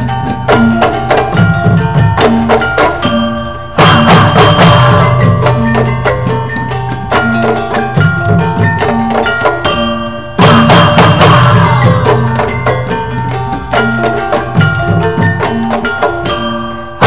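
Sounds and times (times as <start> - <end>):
hand drums interlocking rhythm: 0.0 - 17.0
metallophones striking melody: 0.0 - 17.0.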